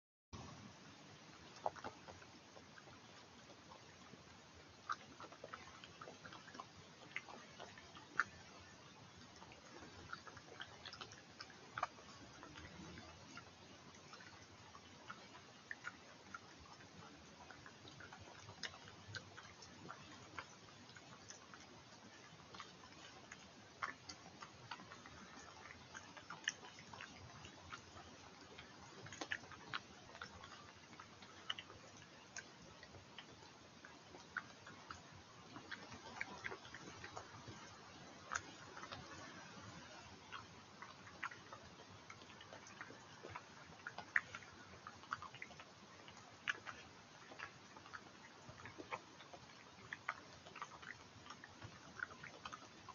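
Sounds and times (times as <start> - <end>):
badger chewing: 0.4 - 52.9.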